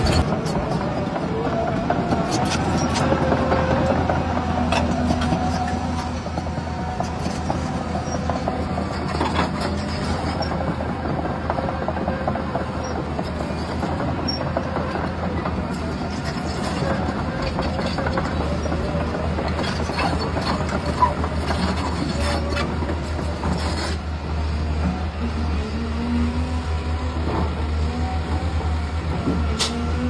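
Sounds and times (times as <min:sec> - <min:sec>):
gears and wheels rattling: 0:00.0 - 0:30.0.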